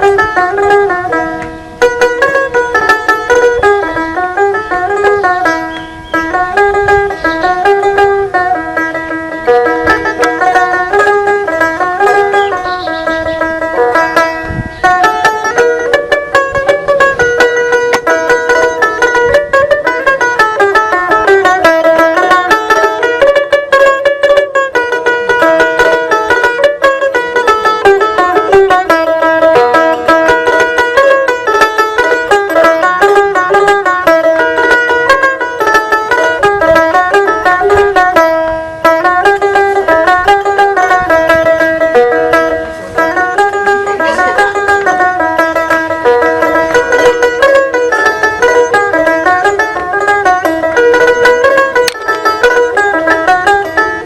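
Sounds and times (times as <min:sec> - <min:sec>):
plucked lute fast melody: 0:00.0 - 0:54.0.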